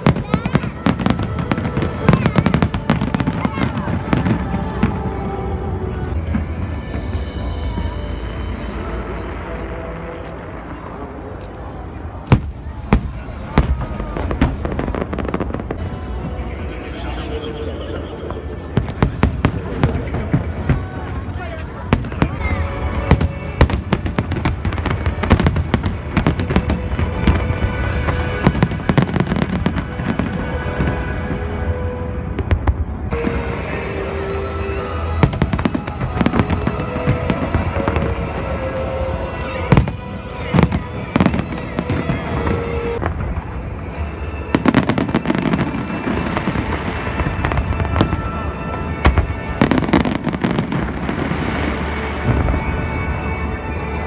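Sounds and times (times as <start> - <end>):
fireworks bangs and crackles: 0.0 - 54.0
music playing: 0.0 - 54.0.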